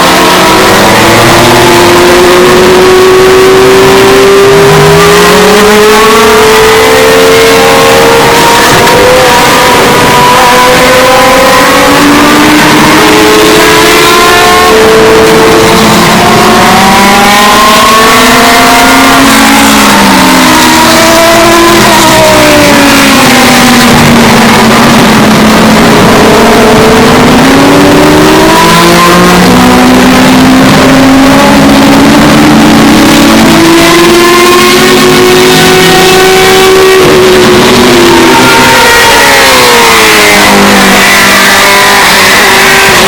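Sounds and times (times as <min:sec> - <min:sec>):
race car engines passing: 0:00.0 - 0:43.0.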